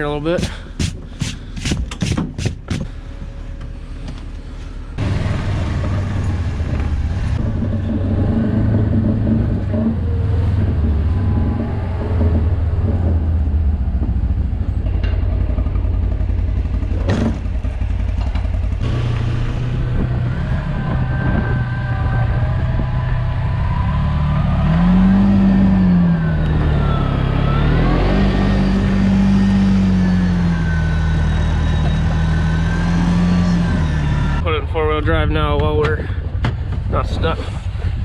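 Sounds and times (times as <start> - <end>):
engine droning with clatter: 0.0 - 38.0.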